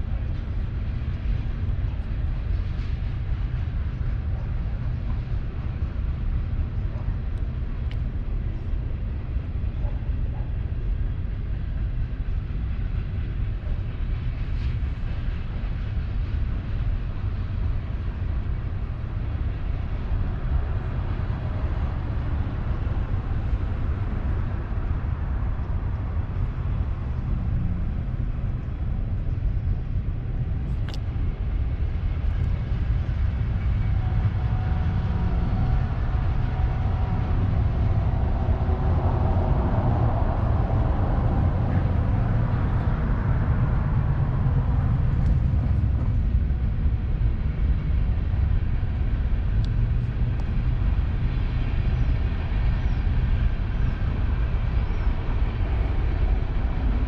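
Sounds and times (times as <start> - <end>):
train passing rumble: 0.0 - 57.0.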